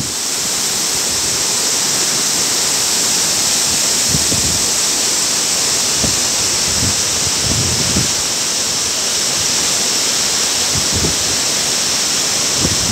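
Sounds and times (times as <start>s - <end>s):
waterfall rushing over rocks: 0.0s - 12.9s.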